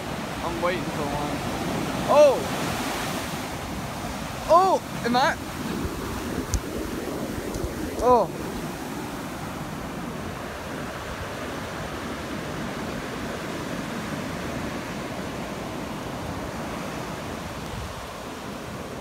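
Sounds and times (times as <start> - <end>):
ocean surf on sandy beach: 0.0 - 19.0.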